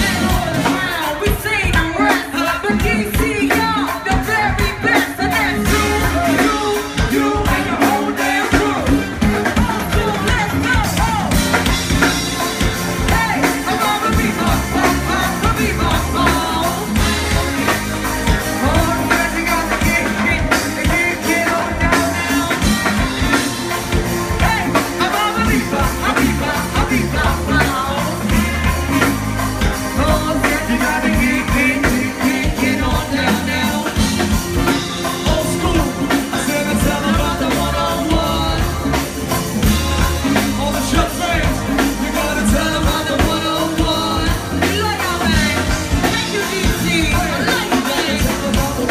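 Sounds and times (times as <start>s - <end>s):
drum and bass beat: 0.0s - 48.9s
live band playing: 0.0s - 48.9s
person singing: 0.0s - 48.9s.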